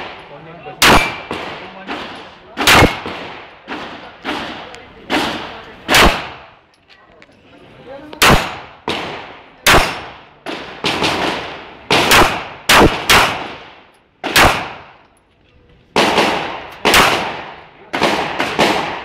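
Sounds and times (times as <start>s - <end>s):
pistol shots with echo: 0.0s - 6.6s, 8.2s - 15.0s, 16.0s - 19.0s.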